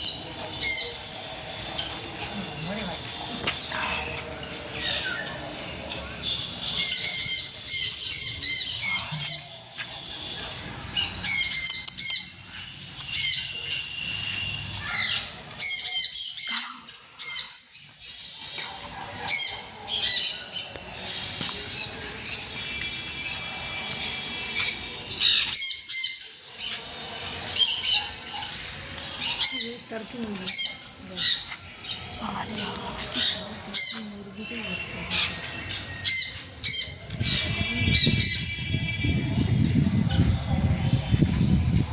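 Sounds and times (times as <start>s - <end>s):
birds squawking: 0.0s - 39.0s.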